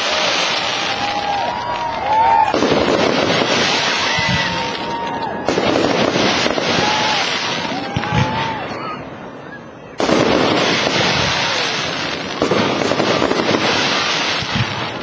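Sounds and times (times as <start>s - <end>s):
fireworks crackling and popping: 0.0s - 8.8s, 10.0s - 15.0s.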